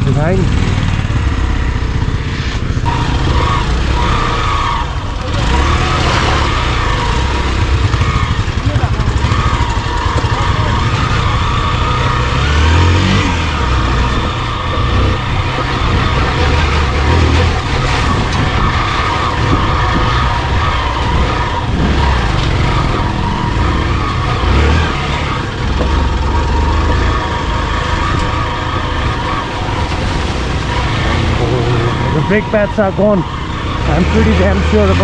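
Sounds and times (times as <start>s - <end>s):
motorcycle engine revving: 0.0s - 35.0s
riding noise: 0.0s - 35.0s.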